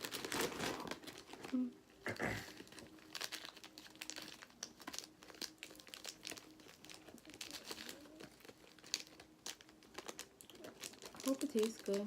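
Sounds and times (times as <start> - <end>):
plastic packet crinkling: 0.0 - 1.7, 2.5 - 12.0.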